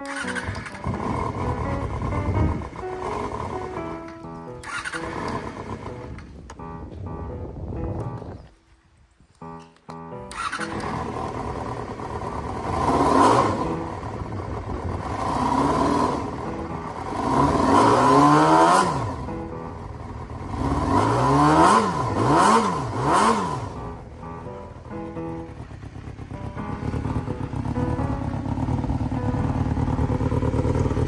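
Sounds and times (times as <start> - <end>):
motorcycle engine revving: 0.0 - 6.5, 10.3 - 31.0.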